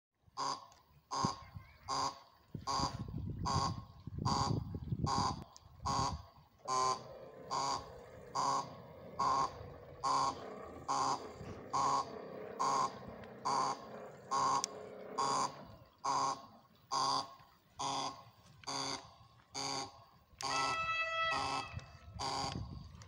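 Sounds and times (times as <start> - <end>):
vehicle low rumble: 0.6 - 23.0.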